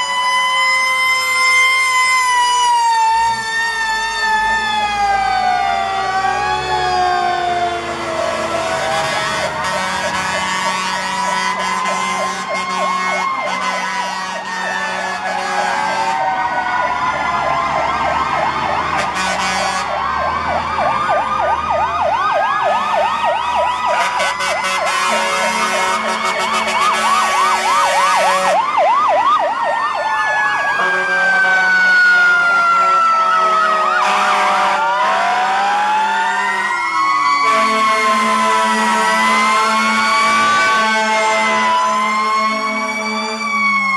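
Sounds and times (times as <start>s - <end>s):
fire truck sirens wailing: 0.0s - 43.9s
truck engines running: 0.0s - 43.9s.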